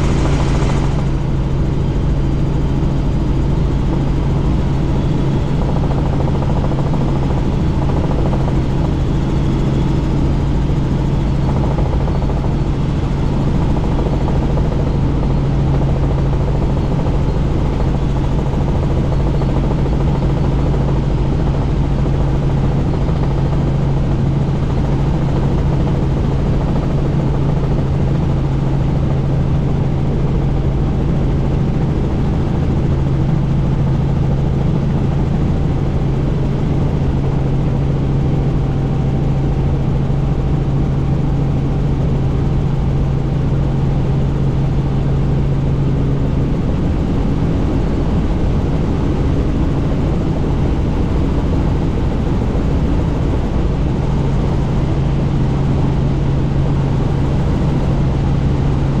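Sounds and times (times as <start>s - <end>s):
heavy wind noise: 0.0s - 59.0s
helicopter engine and rotor drone: 0.0s - 59.0s.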